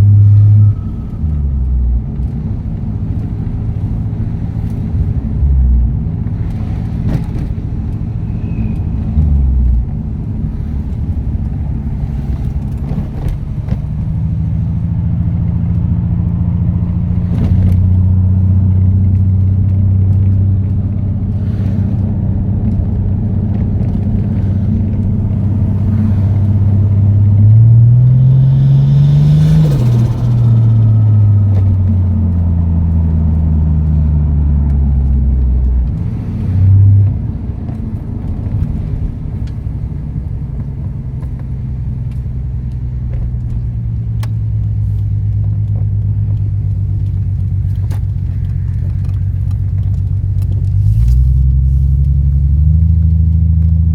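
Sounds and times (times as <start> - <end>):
car engine deep exhaust note: 0.0 - 53.9.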